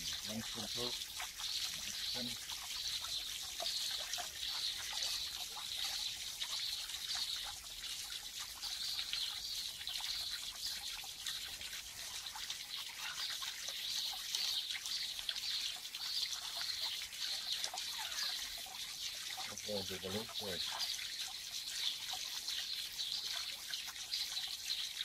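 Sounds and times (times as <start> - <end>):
water trickling into a pond: 0.0 - 25.0.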